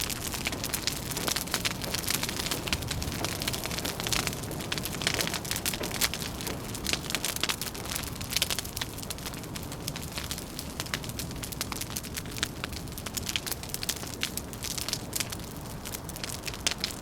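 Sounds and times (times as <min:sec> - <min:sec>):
low rumble of wind: 0:00.0 - 0:17.0
wood fire crackling: 0:00.0 - 0:17.0.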